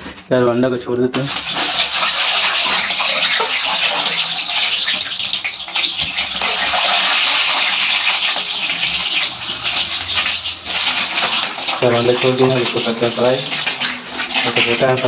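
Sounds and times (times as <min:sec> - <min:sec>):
eggs sizzling in hot oil: 0:01.2 - 0:15.0.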